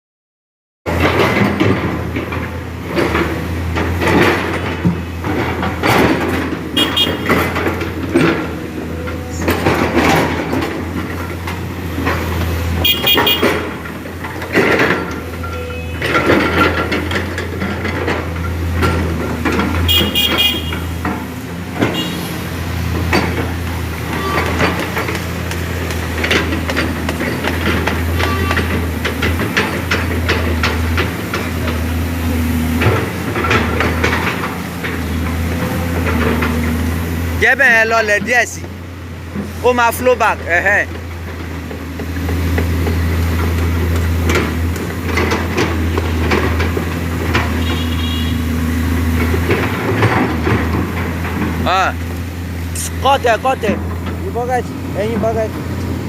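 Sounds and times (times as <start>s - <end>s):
heavy machine engine humming: 0.9s - 56.0s
knocks and clanks: 0.9s - 56.0s.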